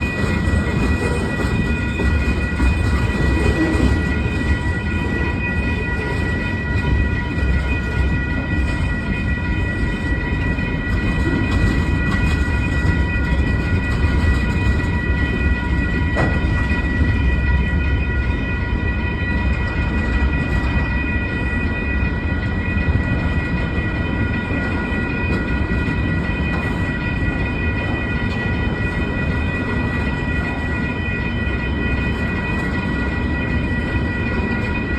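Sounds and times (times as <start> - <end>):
freight train rumbling past: 0.0 - 34.9
high-pitched ringing tones: 0.0 - 34.9.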